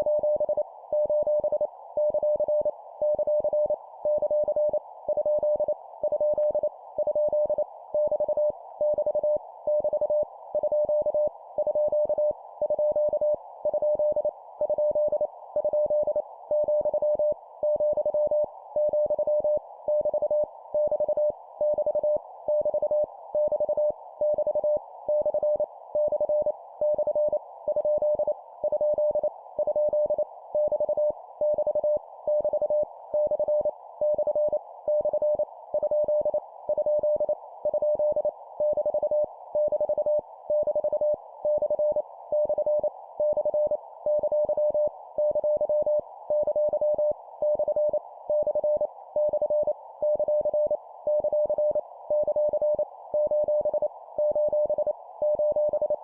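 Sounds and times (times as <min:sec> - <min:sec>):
morse code beep tone: 0:00.0 - 0:56.0.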